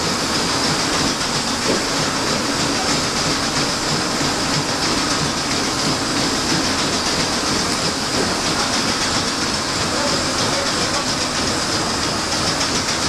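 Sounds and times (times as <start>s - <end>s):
steam engine mechanical clatter: 0.0s - 13.0s
steam hiss: 0.0s - 13.0s.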